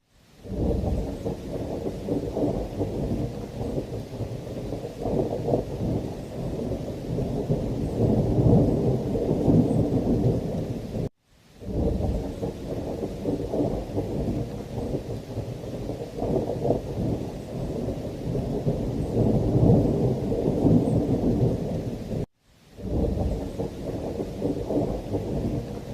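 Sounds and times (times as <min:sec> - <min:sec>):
heavy rain: 0:00.0 - 0:25.9
rolling thunder: 0:00.4 - 0:25.9.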